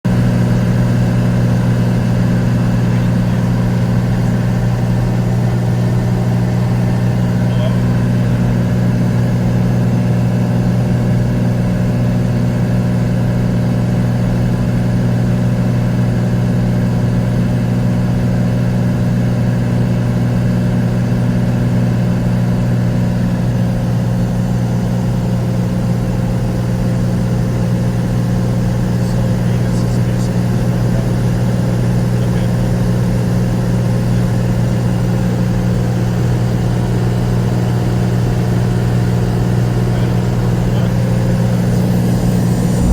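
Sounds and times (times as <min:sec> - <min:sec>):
propeller plane engine droning: 0:00.1 - 0:42.9.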